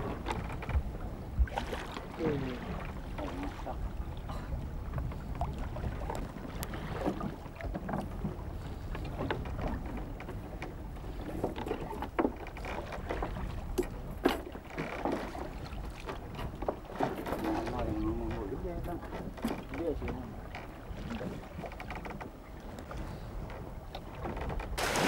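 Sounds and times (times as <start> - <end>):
wind rumbling on microphone: 0.0 - 14.2, 17.5 - 25.0
water splashing against boat hull: 0.0 - 25.0.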